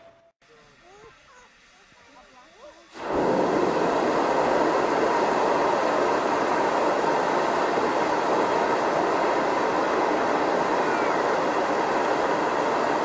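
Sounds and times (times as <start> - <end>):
locomotive venting steam: 0.4 - 13.0
steam train hiss and rumble: 0.4 - 13.0.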